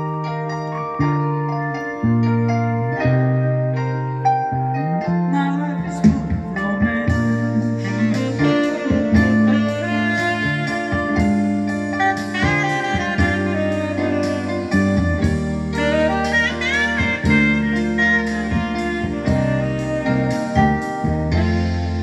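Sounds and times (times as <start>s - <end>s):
bass line: 0.0s - 22.0s
instrumental blues-jazz music: 0.0s - 22.0s
lead line bending notes: 0.0s - 22.0s.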